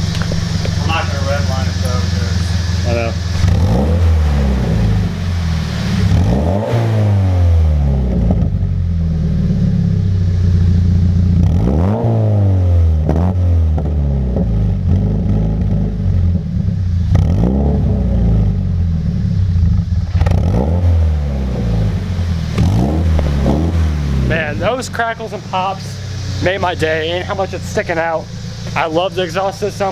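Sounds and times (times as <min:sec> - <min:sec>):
car engine revving: 0:00.0 - 0:29.9
exhaust crackles and pops: 0:00.0 - 0:29.9.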